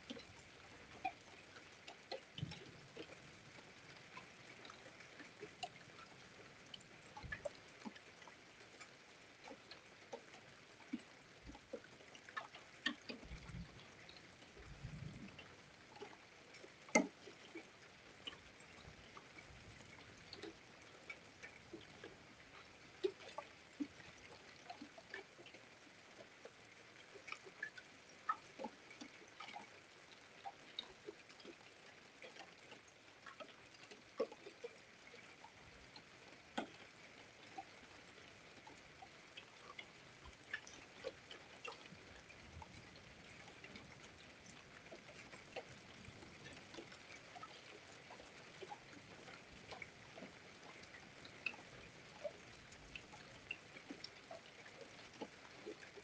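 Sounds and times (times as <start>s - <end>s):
faint steady hiss: 0.0s - 56.0s
raindrops ticking: 0.0s - 56.0s.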